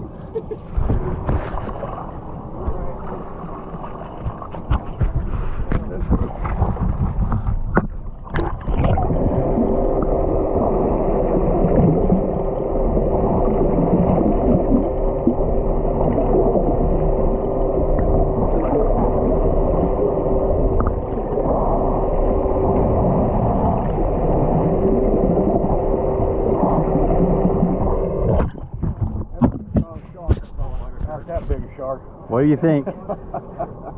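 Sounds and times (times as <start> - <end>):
rushing water: 0.0 - 31.4
boat motor humming: 0.0 - 33.9.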